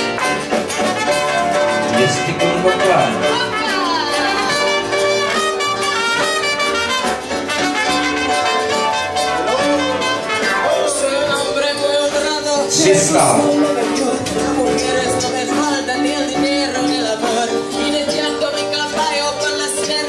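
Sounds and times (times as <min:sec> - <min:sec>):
jazzy band music with brass: 0:00.0 - 0:20.0.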